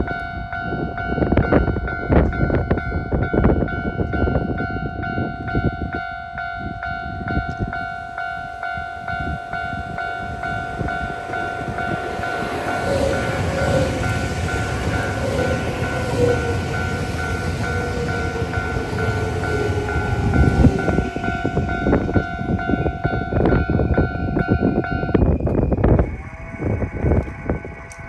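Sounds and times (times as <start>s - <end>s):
level crossing alarm ringing: 0.0s - 28.0s.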